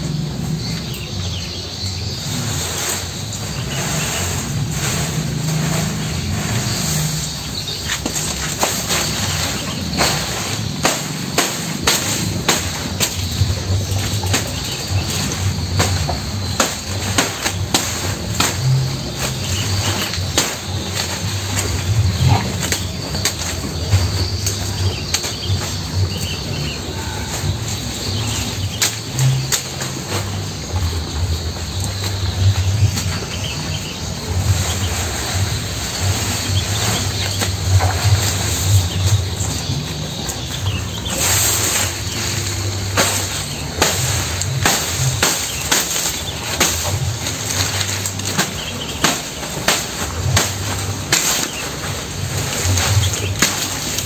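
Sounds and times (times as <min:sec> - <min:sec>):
cattle eating grass: 0:00.0 - 0:54.0
cut leaves rustling: 0:00.0 - 0:54.0
insects chirring: 0:00.0 - 0:54.0
low rumble: 0:00.0 - 0:54.0.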